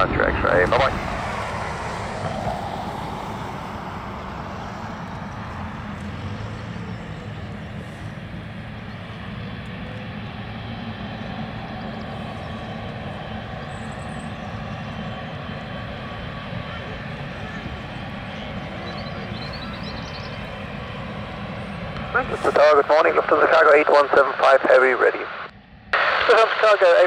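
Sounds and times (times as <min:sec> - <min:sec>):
jet engines idling: 0:00.0 - 0:27.0.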